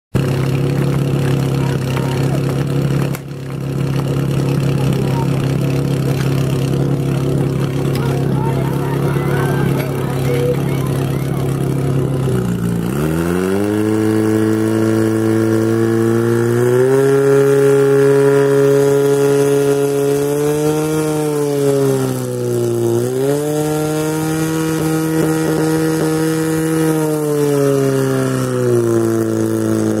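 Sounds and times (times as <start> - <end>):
fire pump engine running: 0.1 - 30.0.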